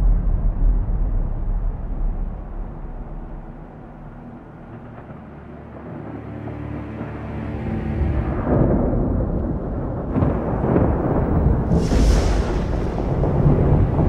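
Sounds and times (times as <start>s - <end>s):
deep rumble of cinematic soundtrack: 0.0s - 14.0s.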